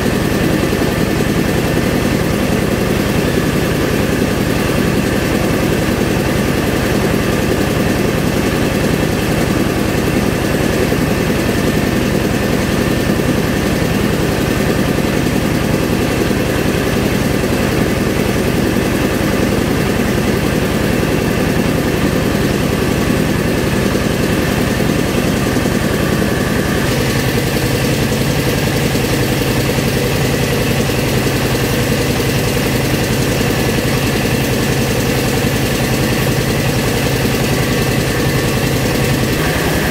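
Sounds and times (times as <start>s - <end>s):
rice milling machine drone: 0.0s - 39.9s.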